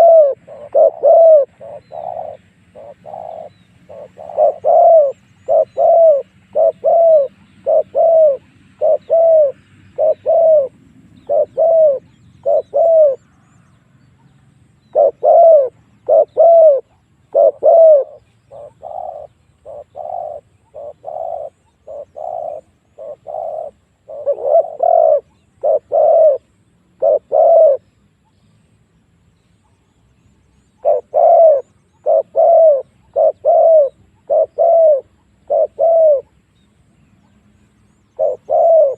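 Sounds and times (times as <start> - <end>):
dove cooing: 0.0 - 28.4, 30.6 - 38.9.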